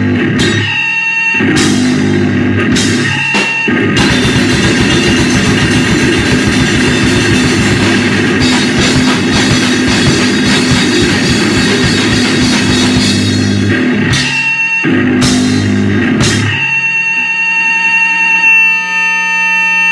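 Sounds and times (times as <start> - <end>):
heavily distorted guitar: 0.0 - 19.1
amplifier feedback whine: 0.0 - 19.9
pounding drums: 0.3 - 17.0.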